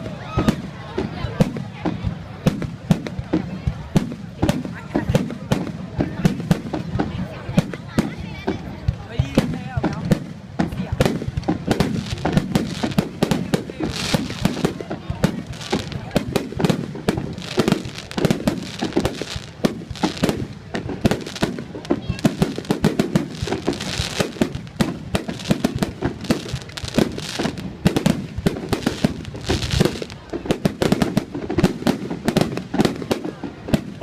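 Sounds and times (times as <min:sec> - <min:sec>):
fireworks bangs and pops: 0:00.0 - 0:34.0.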